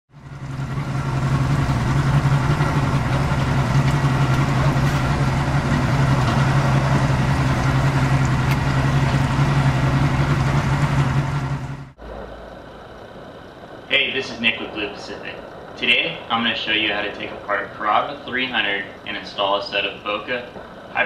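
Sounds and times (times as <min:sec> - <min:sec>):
engine idling: 0:00.1 - 0:21.0.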